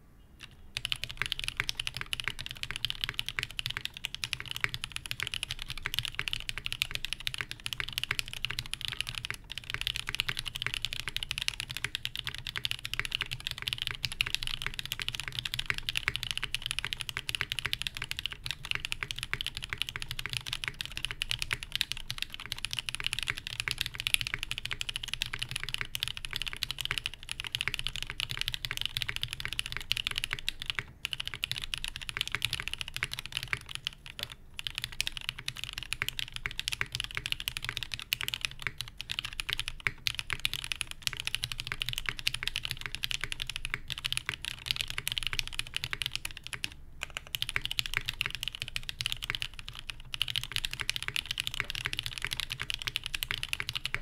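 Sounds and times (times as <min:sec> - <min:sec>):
mechanical keyboard typing: 0:00.4 - 0:54.0.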